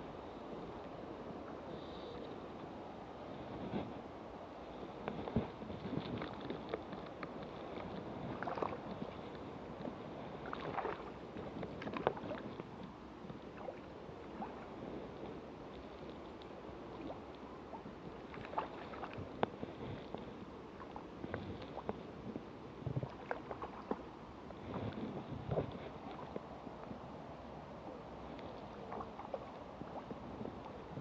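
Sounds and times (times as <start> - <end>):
water sloshing and lapping: 4.8 - 31.0.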